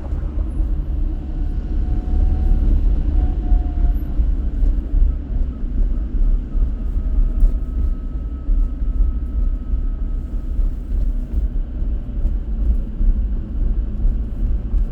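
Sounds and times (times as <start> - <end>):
car road and engine rumble: 0.0 - 14.9.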